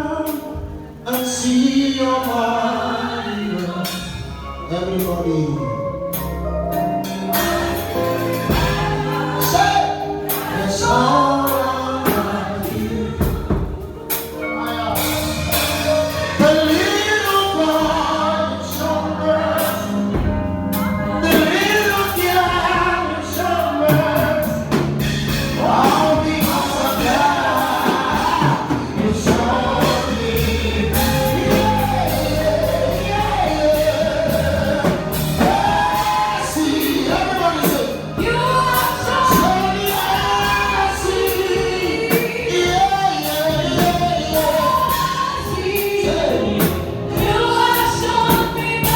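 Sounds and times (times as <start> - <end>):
choir backing vocals: 0.0 - 4.7, 5.6 - 48.9
drums: 0.0 - 48.9
person singing gospel: 0.0 - 48.9
sustained keyboard chords: 0.0 - 48.9.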